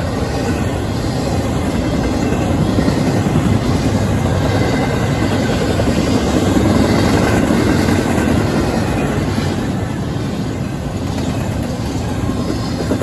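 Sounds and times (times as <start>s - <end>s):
steel train wheels on rail: 0.0s - 13.0s.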